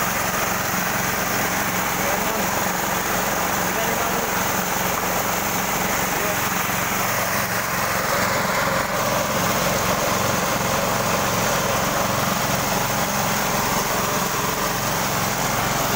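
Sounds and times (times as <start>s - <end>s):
constant mechanical noise: 0.0s - 15.9s
sawmill engine droning: 0.0s - 15.9s.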